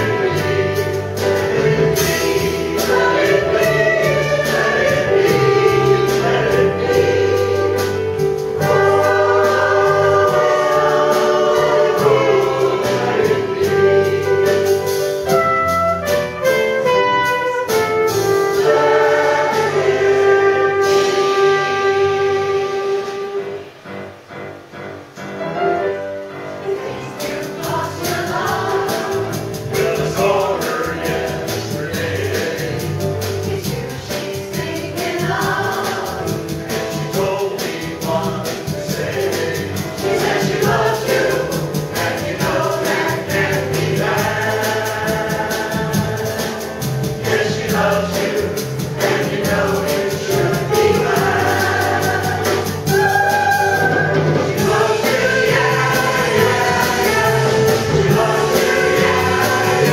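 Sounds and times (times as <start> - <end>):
mixed choir singing: 0.0 - 15.4, 16.4 - 23.8, 26.4 - 59.9
instrumental accompaniment with beat: 0.0 - 23.7, 25.6 - 59.9.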